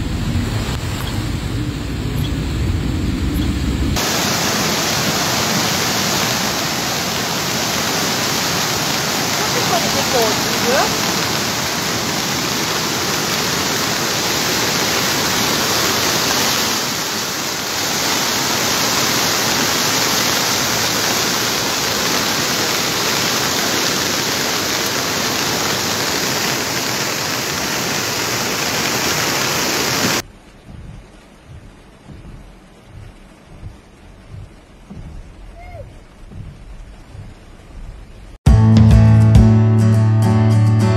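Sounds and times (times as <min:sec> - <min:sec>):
floodwater rushing in river: 0:00.0 - 0:38.4.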